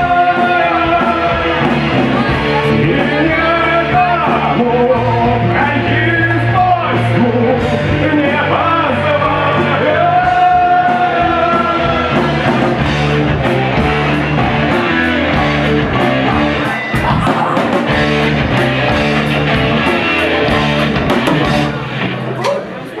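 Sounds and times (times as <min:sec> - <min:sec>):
drum beat: 0:00.0 - 0:06.8, 0:07.6 - 0:22.1
electric guitars: 0:00.0 - 0:23.0.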